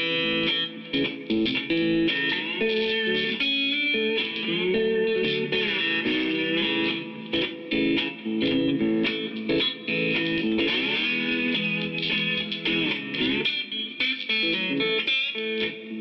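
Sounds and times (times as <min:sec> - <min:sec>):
instrumental guitar music: 0:00.0 - 0:16.0.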